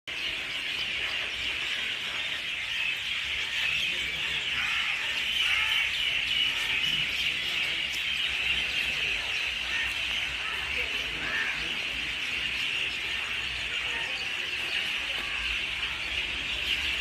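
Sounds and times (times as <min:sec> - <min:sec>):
flock of birds chirping: 0:00.1 - 0:17.0.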